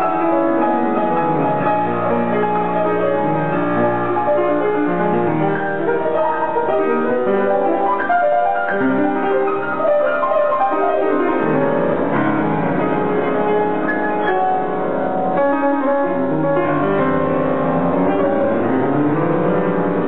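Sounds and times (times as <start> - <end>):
piano piece: 0.0 - 20.0.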